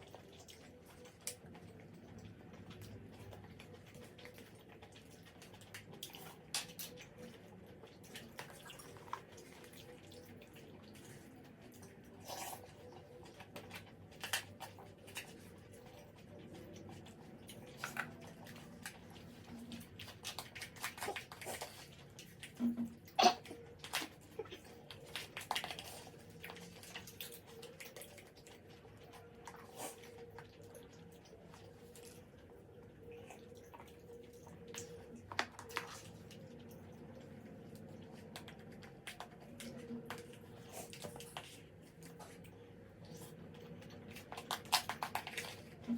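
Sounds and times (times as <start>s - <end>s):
faint steady hum: 0.0s - 45.9s
soft wet chewing: 0.0s - 45.9s.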